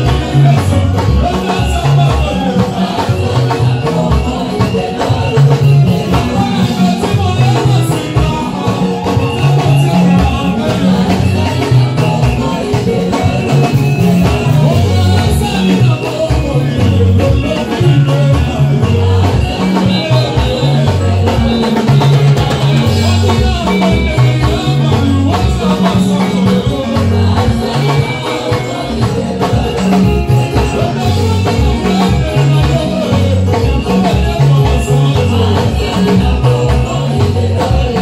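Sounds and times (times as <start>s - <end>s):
band playing: 0.0s - 38.0s
bass line: 0.0s - 38.0s
worship team singing: 0.0s - 38.0s.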